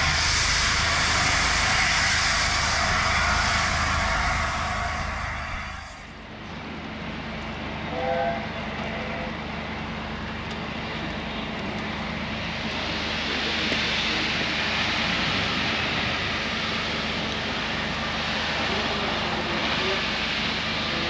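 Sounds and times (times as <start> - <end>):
steam locomotive rushing: 0.0 - 21.0.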